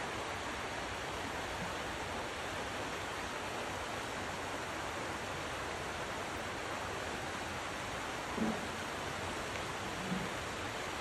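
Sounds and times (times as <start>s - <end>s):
river water rushing over rapids: 0.0s - 11.0s.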